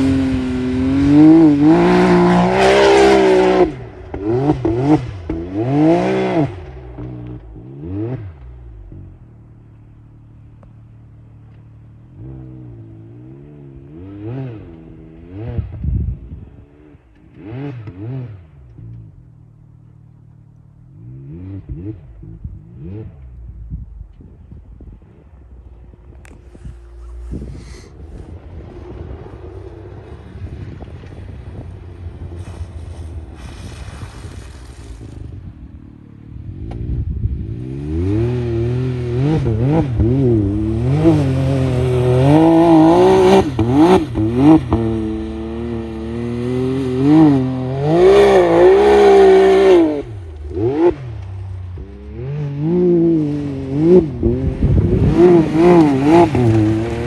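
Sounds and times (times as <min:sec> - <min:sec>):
engine revving: 0:00.0 - 0:09.8, 0:11.4 - 0:19.2, 0:20.8 - 0:23.6, 0:26.1 - 0:57.0.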